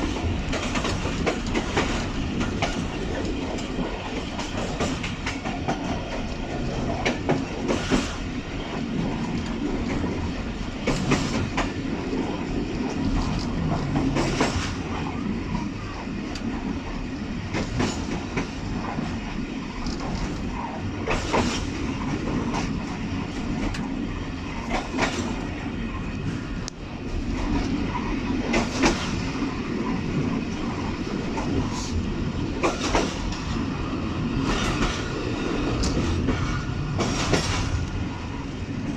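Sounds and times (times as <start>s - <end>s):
wheels clacking over rail joints: 0.0s - 38.2s
train wheels rumbling on track: 0.0s - 38.9s.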